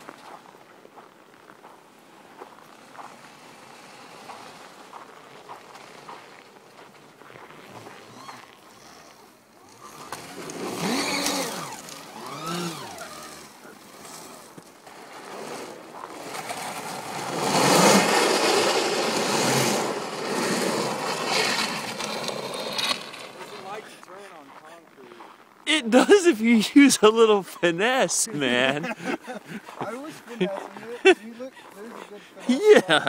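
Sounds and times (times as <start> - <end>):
track and spraying snow: 0.0 - 25.1, 25.7 - 33.0
snowmobile motor whine: 1.8 - 24.1, 25.7 - 33.0.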